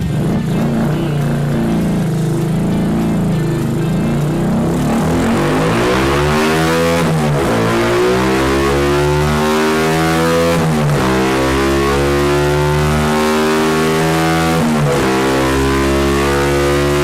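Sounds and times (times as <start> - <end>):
motorcycle engine revving under load: 0.0 - 17.0.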